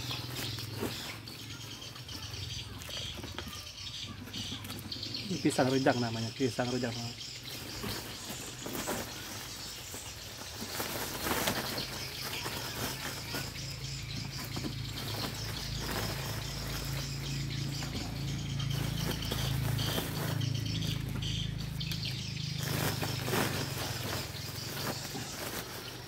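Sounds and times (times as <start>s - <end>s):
plastic sack rustling: 0.0s - 1.7s, 4.8s - 26.0s.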